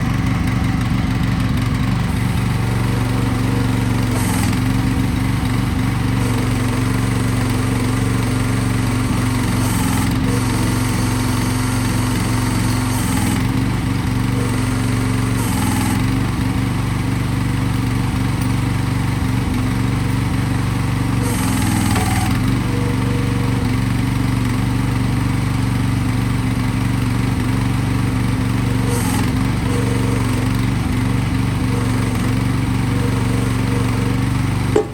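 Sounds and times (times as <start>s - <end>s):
small excavator engine running: 0.0s - 34.9s
hydraulic hissing bursts: 1.8s - 25.9s, 26.7s - 34.9s.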